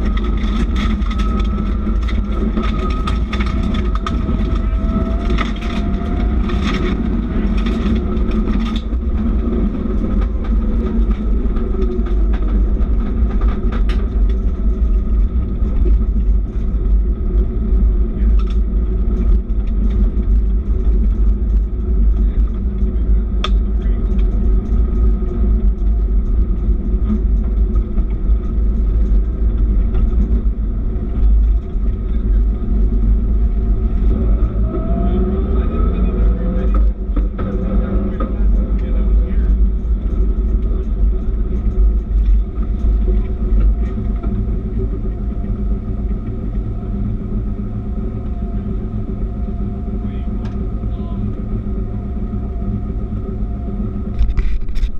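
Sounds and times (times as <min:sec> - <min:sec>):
rally car engine droning: 0:00.0 - 0:54.9
tyres rumbling on gravel: 0:00.0 - 0:54.9.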